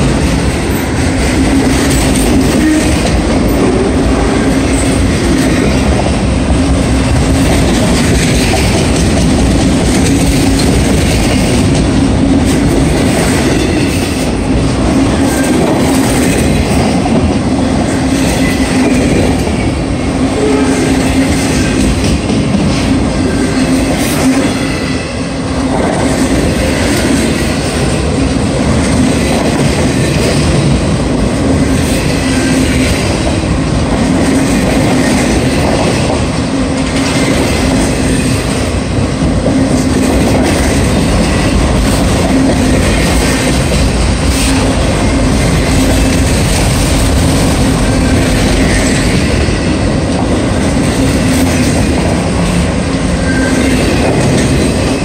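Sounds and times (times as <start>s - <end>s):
freight car wheels on rail: 0.0s - 55.0s.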